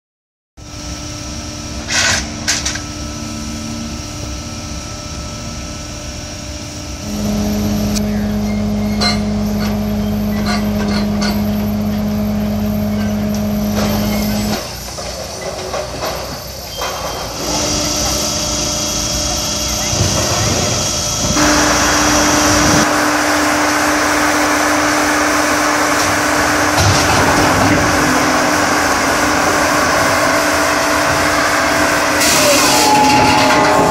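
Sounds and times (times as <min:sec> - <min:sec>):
loud steady hum: 0:00.6 - 0:14.9, 0:17.4 - 0:33.9
heavy machinery running: 0:00.6 - 0:33.9.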